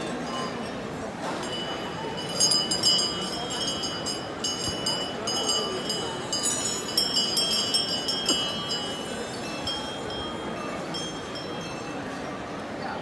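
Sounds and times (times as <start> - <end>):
crowd murmur: 0.0 - 13.0
small metal bells ringing: 0.0 - 13.0.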